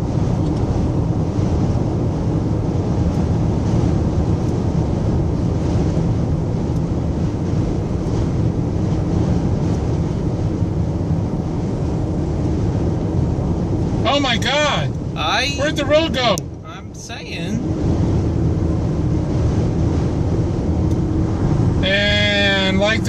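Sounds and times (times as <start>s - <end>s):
road noise: 0.0s - 23.0s
wind noise in car cabin: 0.0s - 23.0s.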